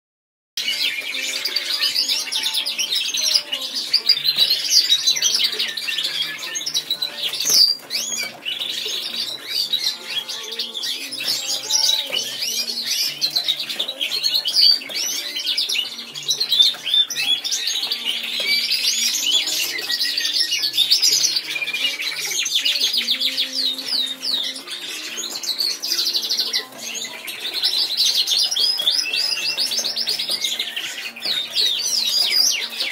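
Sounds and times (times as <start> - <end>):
caged songbird singing trills: 0.6 - 32.9.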